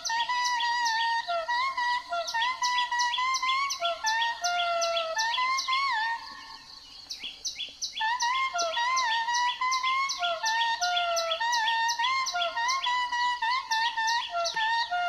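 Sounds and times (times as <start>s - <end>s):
birds chirping: 0.0s - 15.0s
birds whistling: 0.0s - 15.0s.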